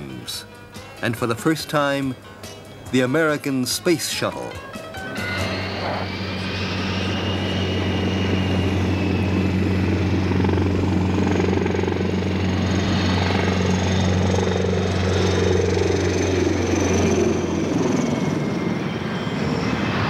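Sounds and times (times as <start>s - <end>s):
aircraft engine drone: 3.9s - 20.0s.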